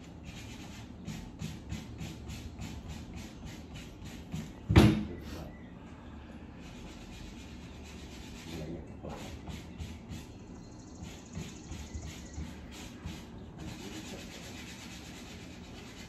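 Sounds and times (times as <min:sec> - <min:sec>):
sanding block rubbing wood: 0:00.0 - 0:04.6, 0:06.6 - 0:10.4, 0:11.0 - 0:16.0.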